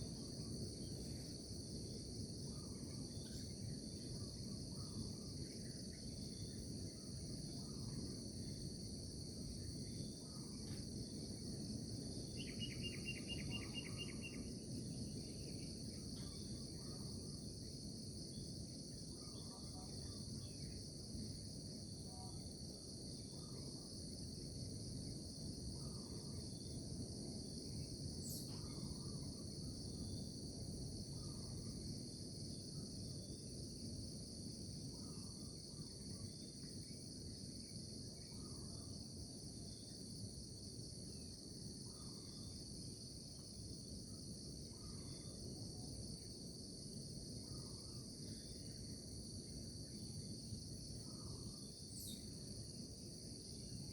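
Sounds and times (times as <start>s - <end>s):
insects chirping chorus: 0.0s - 53.9s
rapid insect trill: 0.0s - 53.9s.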